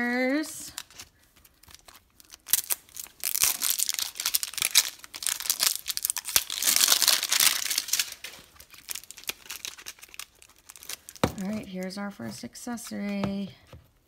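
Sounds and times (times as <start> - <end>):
plastic wrapping crinkling: 0.6 - 13.5.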